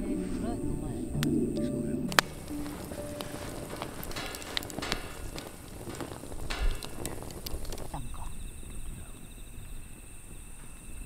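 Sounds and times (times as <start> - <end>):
campfire crackling and popping: 1.1 - 11.0
soft hiss: 2.1 - 11.0.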